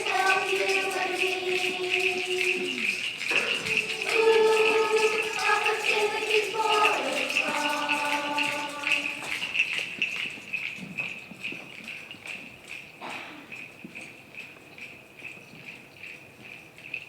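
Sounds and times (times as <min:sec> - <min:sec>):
shaker rattle beat: 0:00.0 - 0:17.0.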